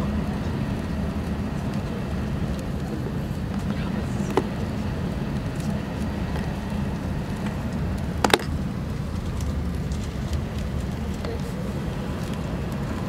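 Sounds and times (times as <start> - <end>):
train rumble inside cabin: 0.0 - 13.0.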